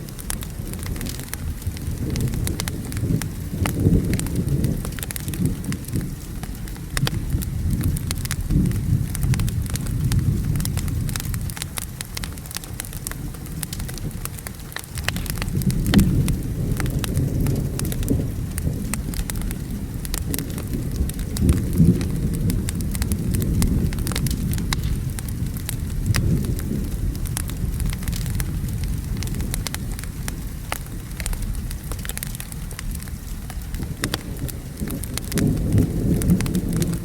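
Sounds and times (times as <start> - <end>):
low rolling thunder: 0.0 - 37.0
steady rain: 0.0 - 37.0.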